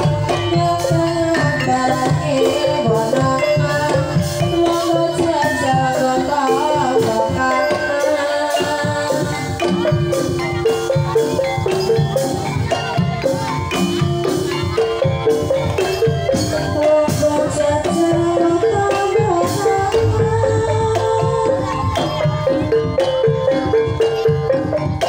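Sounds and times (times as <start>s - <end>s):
hand drums: 0.0s - 25.0s
hanging gongs: 0.0s - 25.0s
metallophone melody: 0.0s - 25.0s.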